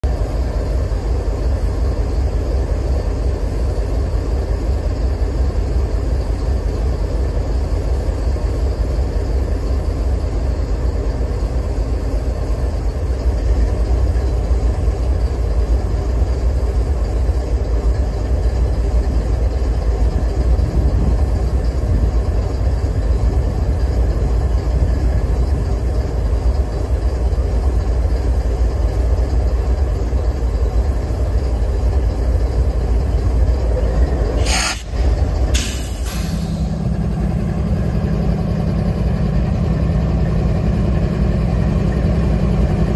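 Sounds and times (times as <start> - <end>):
locomotive engine idling: 0.0 - 42.9.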